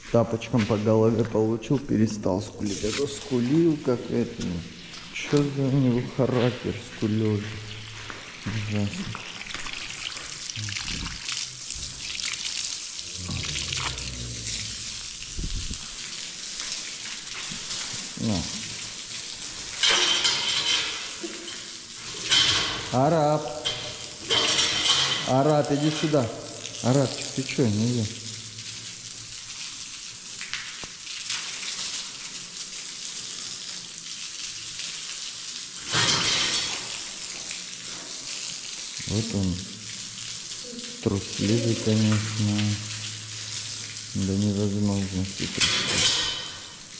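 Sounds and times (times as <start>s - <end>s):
water spraying from hose: 0.0s - 46.9s.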